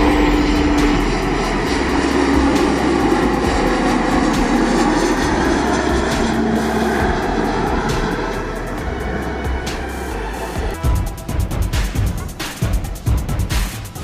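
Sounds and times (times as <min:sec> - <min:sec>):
airliner engines roaring: 0:00.0 - 0:14.0.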